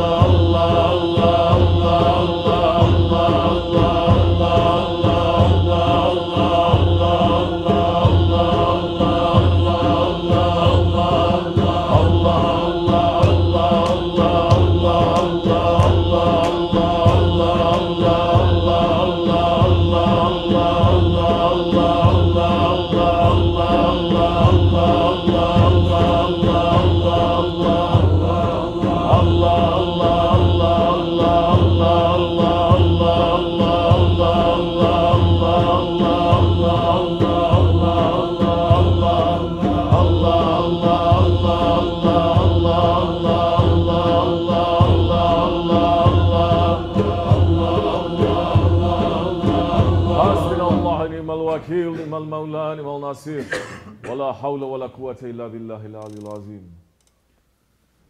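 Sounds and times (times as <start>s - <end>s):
men chanting in unison: 0.0s - 56.3s.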